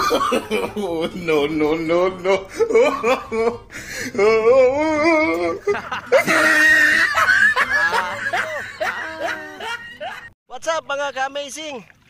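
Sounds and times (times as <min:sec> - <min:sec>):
men laughing and hooting: 0:00.0 - 0:10.4.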